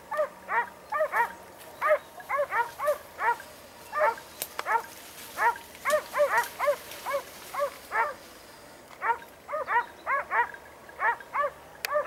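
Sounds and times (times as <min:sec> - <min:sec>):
dogs barking in high yelps: 0:00.1 - 0:08.3, 0:09.0 - 0:12.0.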